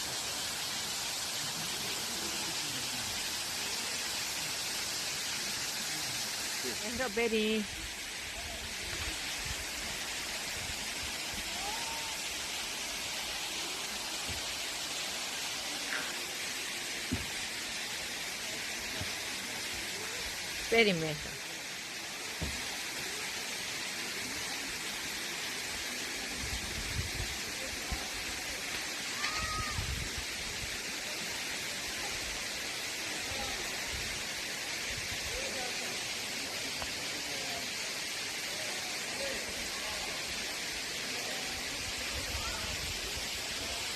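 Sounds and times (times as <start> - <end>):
rushing water: 0.0 - 43.9.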